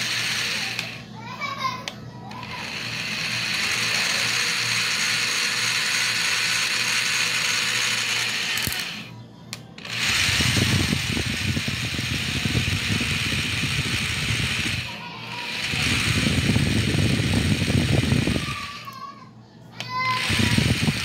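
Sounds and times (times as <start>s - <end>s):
electric drill boring: 0.0s - 1.1s, 2.3s - 19.0s, 19.8s - 21.0s.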